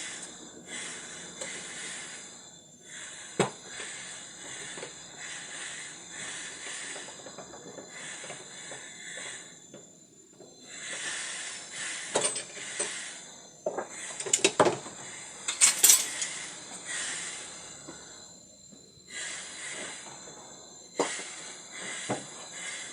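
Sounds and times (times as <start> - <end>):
gas torch flame hissing: 0.0 - 22.9.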